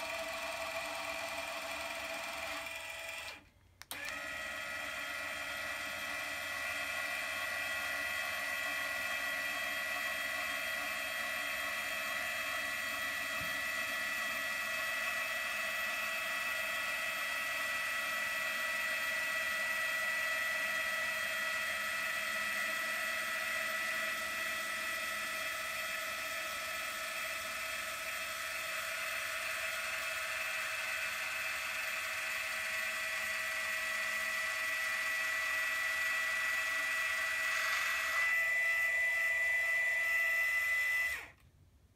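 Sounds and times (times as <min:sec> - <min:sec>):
actuator motors whining: 0:00.1 - 0:41.4.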